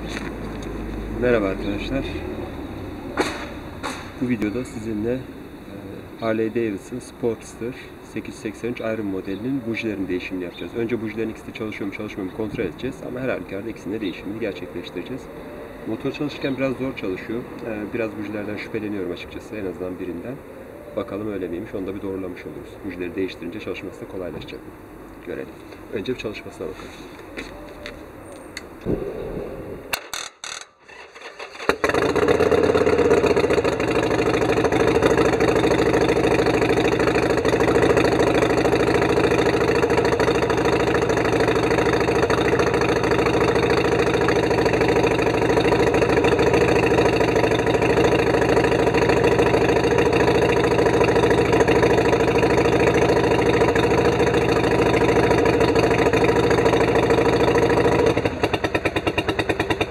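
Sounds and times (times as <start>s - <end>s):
motorcycle engine starting and idling: 0.0s - 24.9s, 25.6s - 59.9s.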